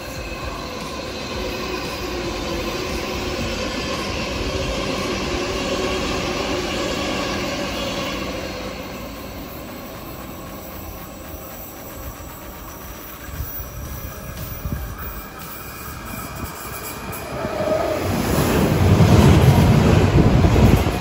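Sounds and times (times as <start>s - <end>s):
train passing rumble: 0.0s - 21.0s.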